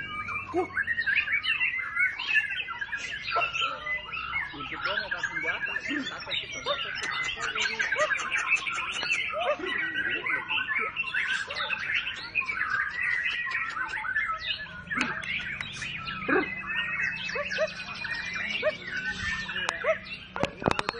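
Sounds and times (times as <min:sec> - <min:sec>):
songbirds chorus: 0:00.0 - 0:20.9.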